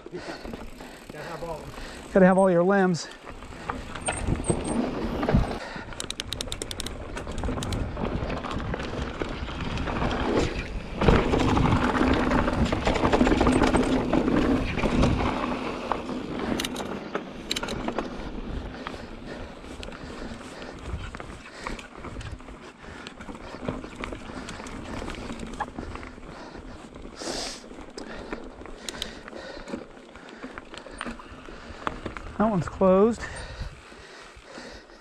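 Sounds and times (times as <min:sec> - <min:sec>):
bike rattling over bumps: 0:00.0 - 0:35.0
bike tyres on dirt trail: 0:00.0 - 0:35.0.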